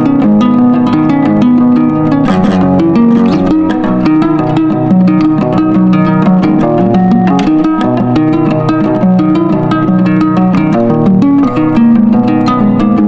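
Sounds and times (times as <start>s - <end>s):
plucked acoustic guitar with bass: 0.0s - 13.0s.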